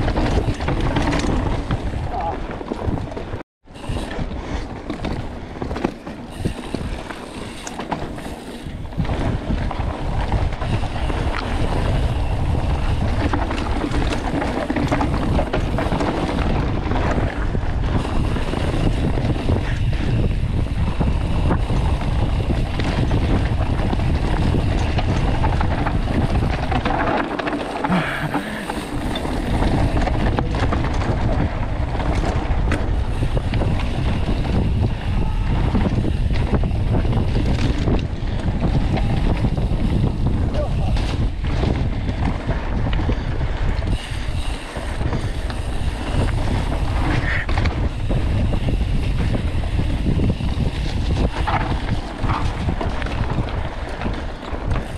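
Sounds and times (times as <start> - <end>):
bike knocking and rattling: 0.0 - 54.9
bike tyres rumbling on dirt: 0.0 - 54.9
wind buffeting microphone: 0.0 - 54.9.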